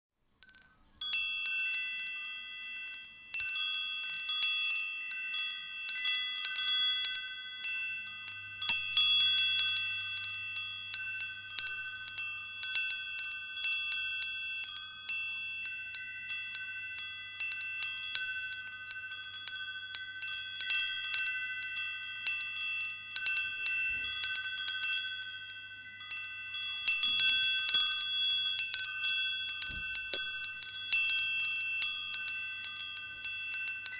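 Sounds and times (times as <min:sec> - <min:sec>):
wind chimes ringing: 0:00.4 - 0:33.9.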